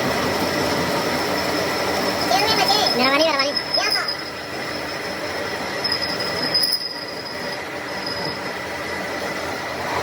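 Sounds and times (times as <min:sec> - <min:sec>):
metalworking machine whining: 0:00.0 - 0:10.0.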